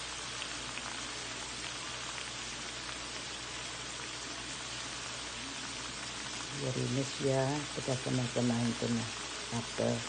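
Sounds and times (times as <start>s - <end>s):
sauce bubbling in a wok: 0.0s - 10.0s.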